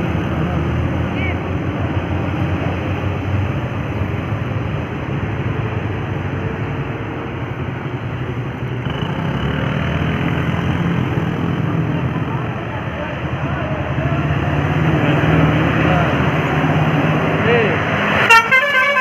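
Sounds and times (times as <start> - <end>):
deep loud engine: 0.0 - 19.0
heavy vehicles passing: 0.0 - 19.0.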